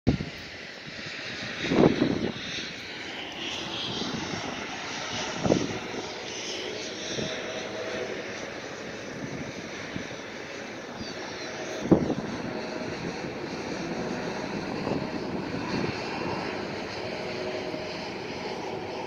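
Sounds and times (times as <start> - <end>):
distant jet engines rushing: 0.1 - 19.0
wind buffets on microphone: 0.1 - 19.0
faint engine tone: 2.0 - 19.0.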